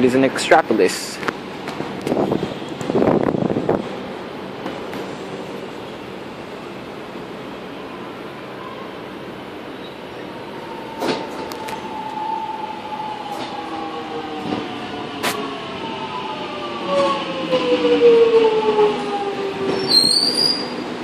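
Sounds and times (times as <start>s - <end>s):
electric train whine: 1.4s - 21.0s.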